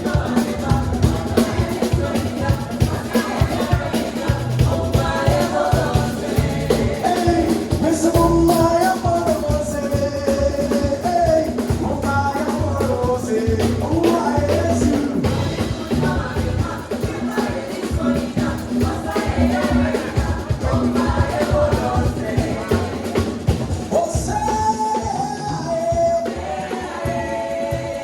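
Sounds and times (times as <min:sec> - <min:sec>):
drum kit: 0:00.0 - 0:28.0.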